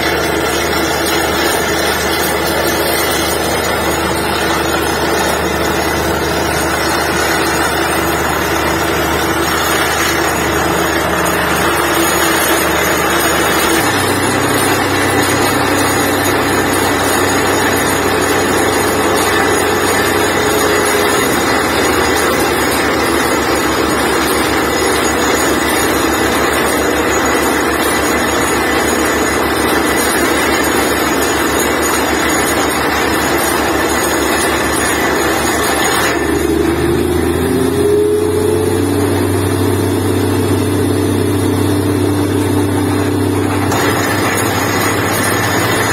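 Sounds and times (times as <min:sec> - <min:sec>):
drilling rig running: 0:00.0 - 0:45.9.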